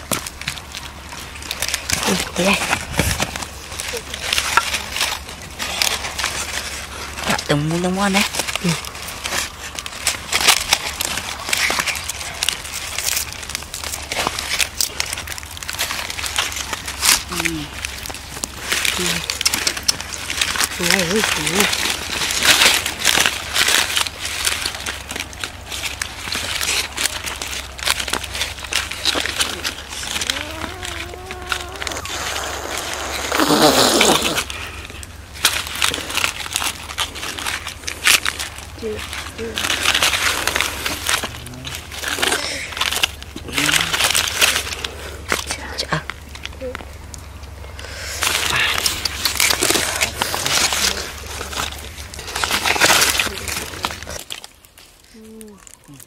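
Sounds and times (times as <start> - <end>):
chicken skin and bone crackling: 0.0 - 56.0
leaf rustling: 0.0 - 56.0
leaves crinkling: 0.0 - 56.0.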